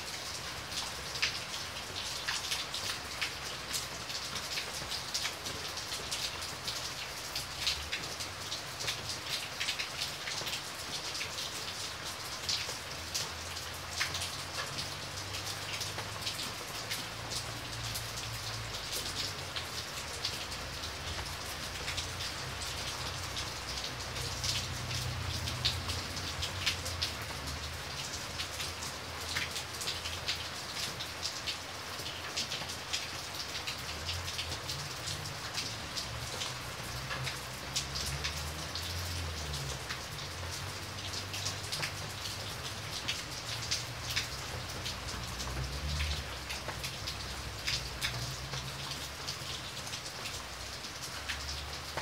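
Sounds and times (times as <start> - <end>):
close raindrop splashes: 0.0 - 52.0.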